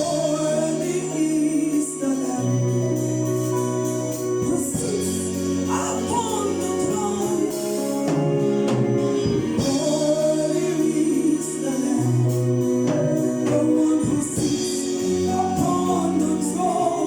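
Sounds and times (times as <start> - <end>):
gospel choir singing: 0.0 - 17.0
organ holding long chords: 0.0 - 17.0.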